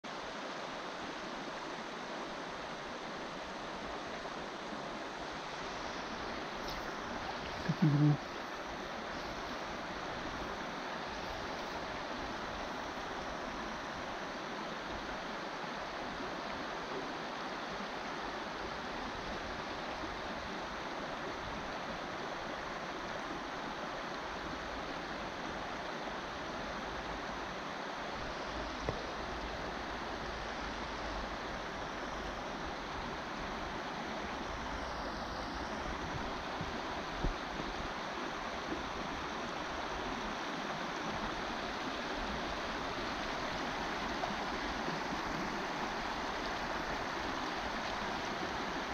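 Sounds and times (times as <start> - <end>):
river flowing over gravel: 0.1 - 48.9.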